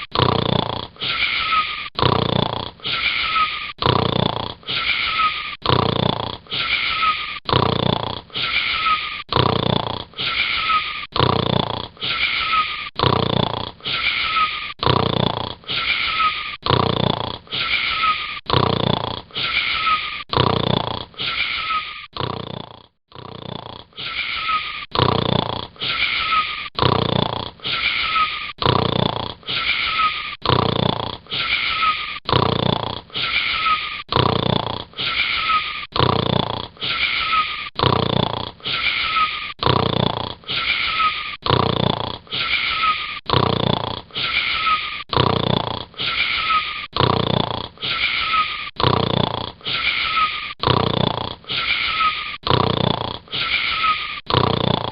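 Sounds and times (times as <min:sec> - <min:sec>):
rasping wheezy snoring: 0:00.0 - 0:54.9.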